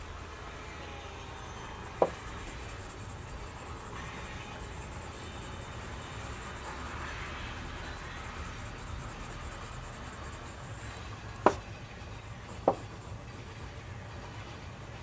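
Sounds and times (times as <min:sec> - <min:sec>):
coloured pencil scratching on paper: 0:00.2 - 0:15.0.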